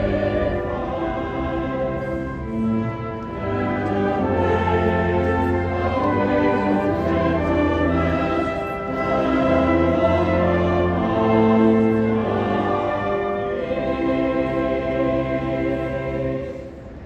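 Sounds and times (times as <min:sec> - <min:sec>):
choir singing: 0:00.0 - 0:17.0
slow solemn instrumental accompaniment: 0:00.0 - 0:17.0.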